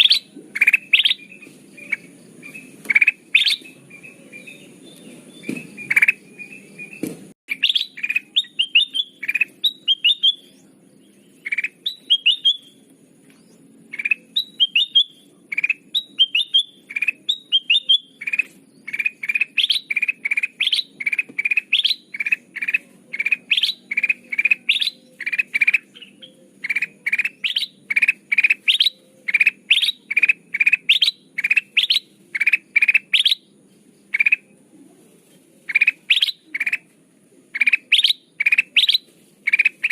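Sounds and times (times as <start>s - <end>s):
bulbul chirping: 0.0s - 10.7s, 11.3s - 34.5s, 35.7s - 36.9s, 37.5s - 39.9s.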